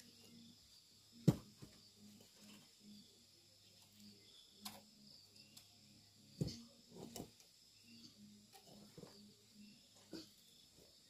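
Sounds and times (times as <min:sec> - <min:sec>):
faint high-pitched background tone: 0:00.0 - 0:11.0.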